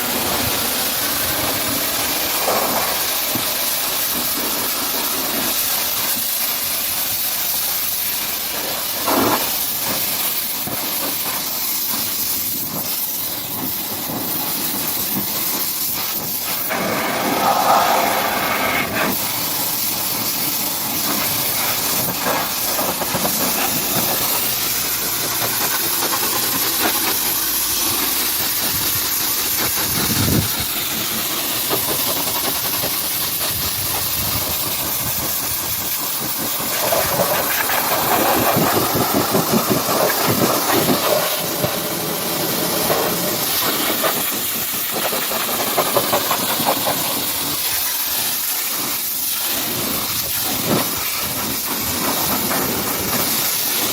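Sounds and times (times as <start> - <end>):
pressure washer spraying water: 0.0 - 53.9.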